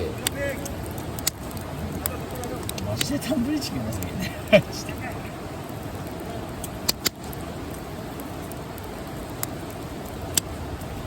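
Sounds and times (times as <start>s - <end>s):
campfire burning: 0.0s - 11.0s
fire popping: 0.0s - 11.0s.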